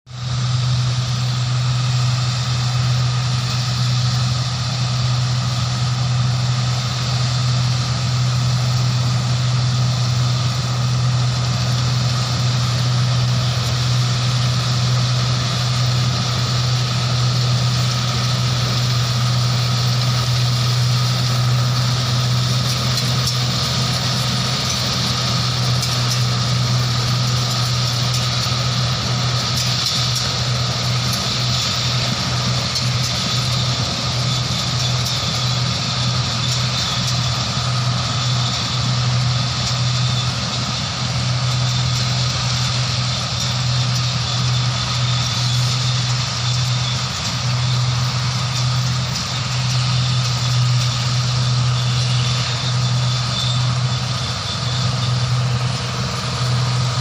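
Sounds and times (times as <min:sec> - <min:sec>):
farm machine engines running: 0:00.1 - 0:57.0.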